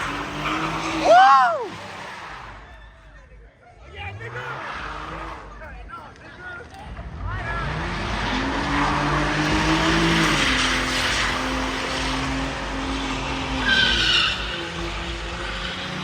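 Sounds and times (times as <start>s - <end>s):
engine at high revs: 0.0s - 2.8s, 3.9s - 16.0s
tyres screeching on pavement: 0.0s - 16.0s.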